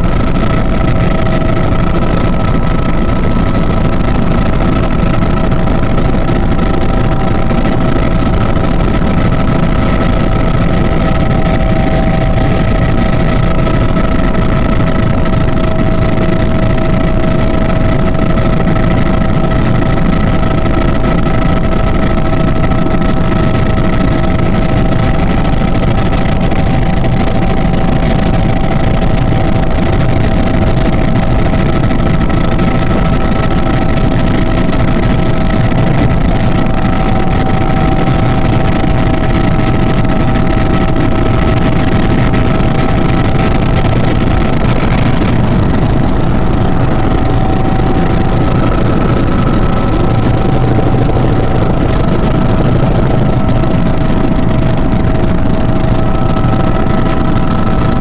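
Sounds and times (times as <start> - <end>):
small aircraft engine droning: 0.0 - 58.0.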